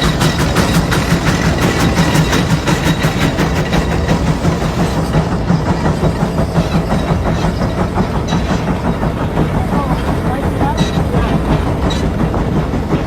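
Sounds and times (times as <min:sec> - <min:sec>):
steam engine exhaust chuffing: 0:00.0 - 0:13.0.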